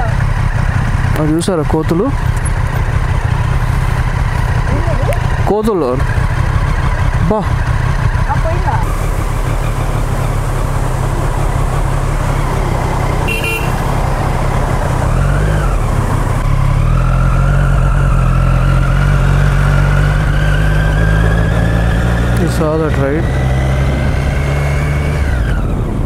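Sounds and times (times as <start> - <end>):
motorbike engine humming: 0.0 - 26.0.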